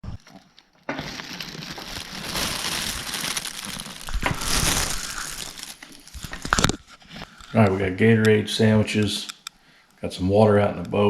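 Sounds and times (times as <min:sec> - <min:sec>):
crinkling and rustling: 0:00.0 - 0:09.6.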